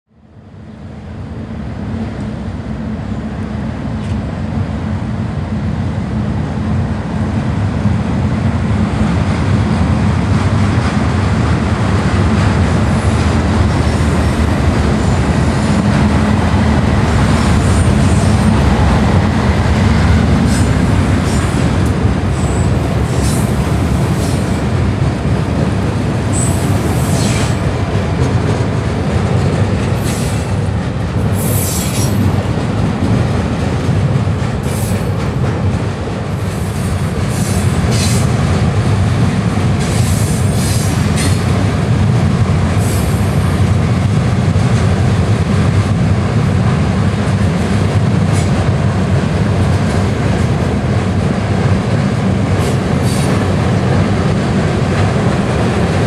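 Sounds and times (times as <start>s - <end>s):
diesel locomotives rumbling: 0.2s - 56.0s
rail cars rolling on steel rails: 0.2s - 56.0s.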